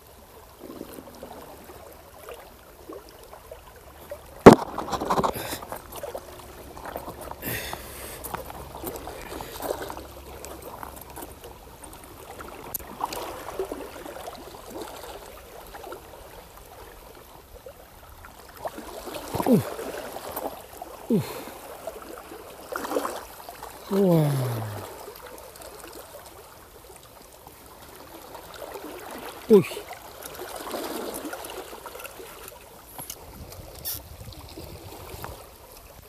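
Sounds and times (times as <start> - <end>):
water lapping at shoreline: 0.0 - 36.0.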